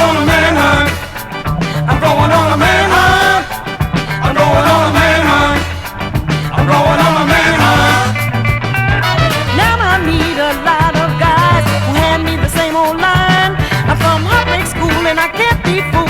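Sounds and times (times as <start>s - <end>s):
funk music: 0.0s - 16.0s.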